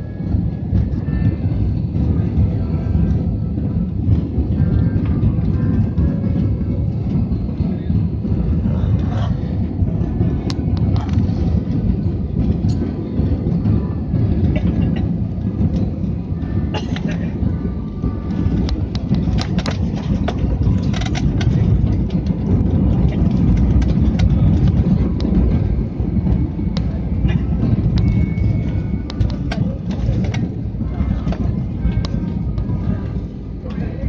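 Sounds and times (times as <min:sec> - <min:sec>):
low rumble of engines and wheels: 0:00.0 - 0:34.0.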